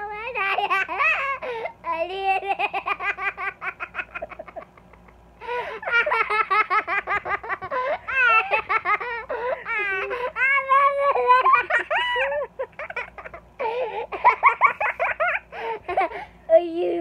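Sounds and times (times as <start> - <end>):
young child laughing: 0.2 - 16.3.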